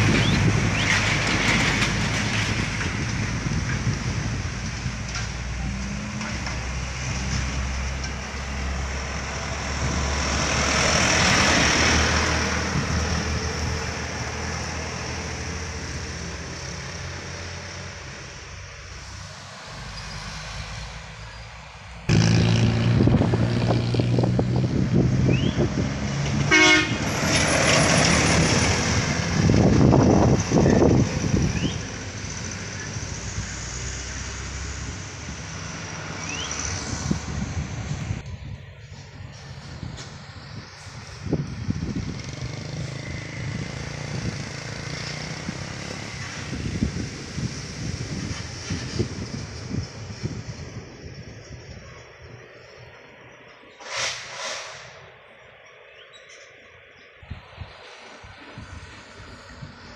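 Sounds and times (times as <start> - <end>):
heavy vehicles passing: 0.0 - 55.9, 56.5 - 59.9
loud heavy engine close by: 0.0 - 55.9.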